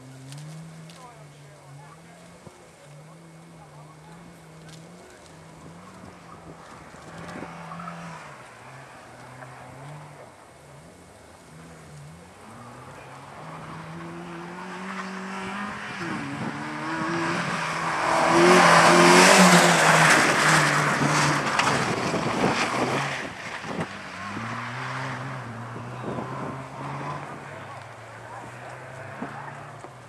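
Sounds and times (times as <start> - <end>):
rally car passing by: 0.0 - 30.0.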